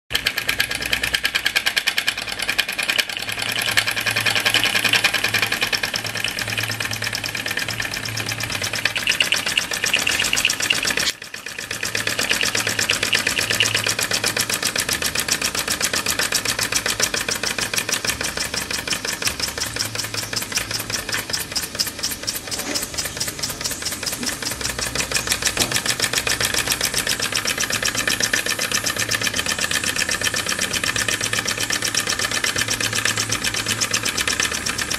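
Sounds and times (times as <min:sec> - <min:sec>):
toy steam engine chuffing: 0:00.1 - 0:34.9.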